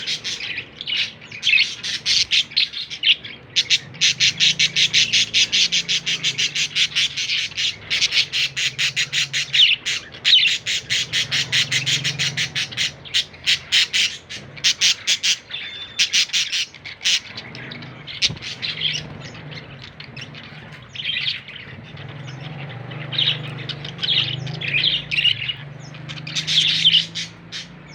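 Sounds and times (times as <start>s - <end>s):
budgerigar chirping: 0.0s - 27.9s.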